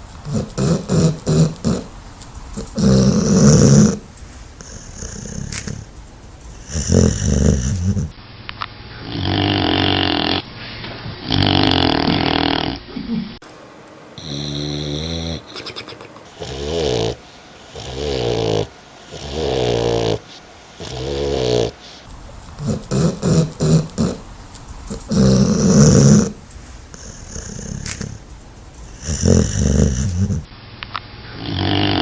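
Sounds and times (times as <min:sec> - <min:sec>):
dog snoring: 0:00.2 - 0:02.0, 0:02.6 - 0:05.9, 0:06.5 - 0:08.2, 0:09.0 - 0:10.5, 0:11.2 - 0:12.8, 0:14.2 - 0:30.5, 0:31.3 - 0:32.0.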